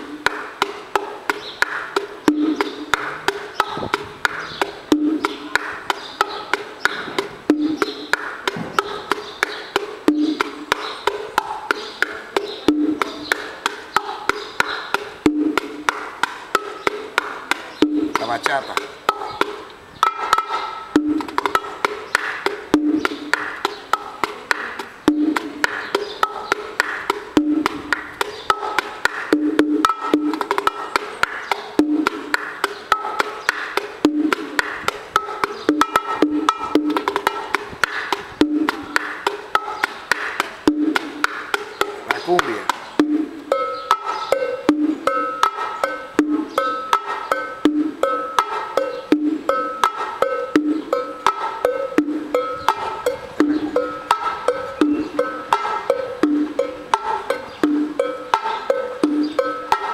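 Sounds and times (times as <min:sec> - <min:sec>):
bongos played by hand: 0:00.0 - 0:59.9.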